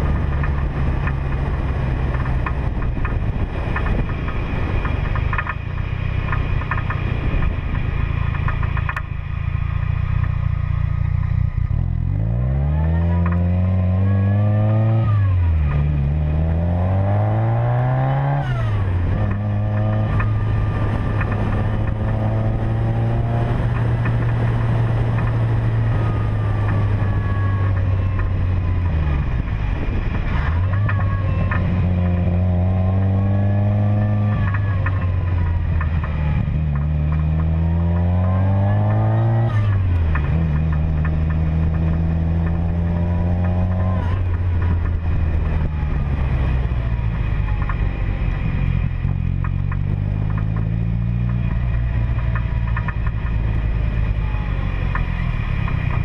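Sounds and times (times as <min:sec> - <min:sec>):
car engine accelerating: 0:00.0 - 0:56.0
road noise: 0:00.0 - 0:56.0.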